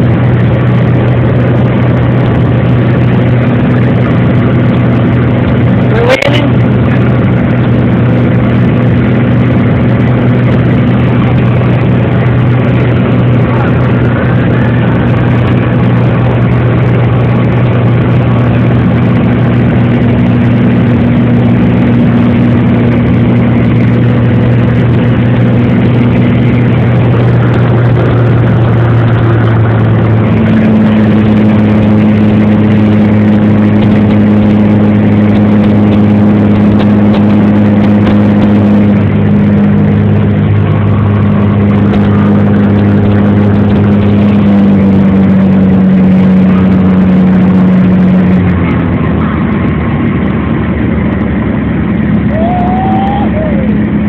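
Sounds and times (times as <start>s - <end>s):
airplane engine drone: 0.0s - 54.0s.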